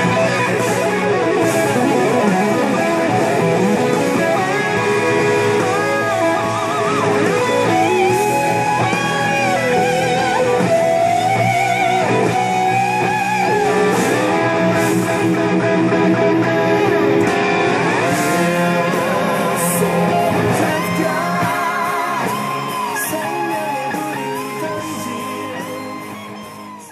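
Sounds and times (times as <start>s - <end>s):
electric guitar lead line: 0.0s - 26.9s.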